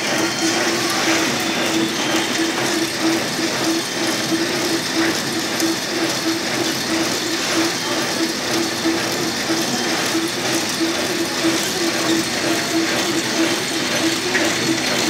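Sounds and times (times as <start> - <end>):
packing machine clattering: 0.0 - 15.0
pulsing machine hum: 0.0 - 15.0.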